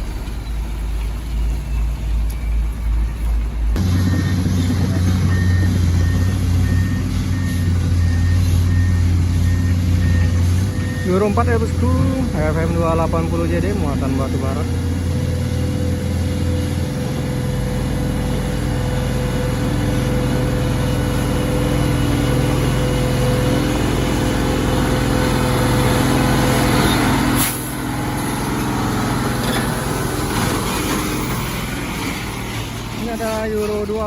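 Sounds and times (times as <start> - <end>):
dump truck diesel engine: 0.0 - 34.0.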